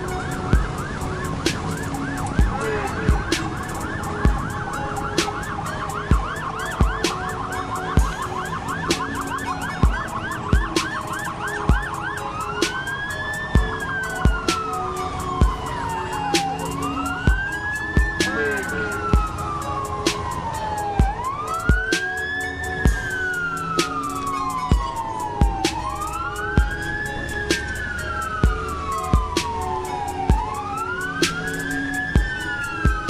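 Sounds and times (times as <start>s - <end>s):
emergency sirens wailing: 0.0s - 33.0s
steady thumping beat: 0.0s - 33.0s.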